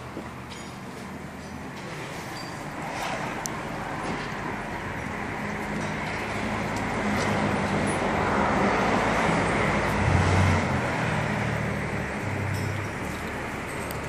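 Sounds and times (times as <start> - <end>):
car engines running: 0.0 - 14.0
road traffic noise: 0.0 - 14.0.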